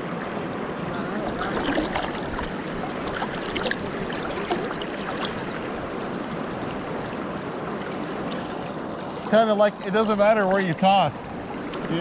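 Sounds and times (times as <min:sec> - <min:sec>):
river current rushing: 0:00.1 - 0:12.0.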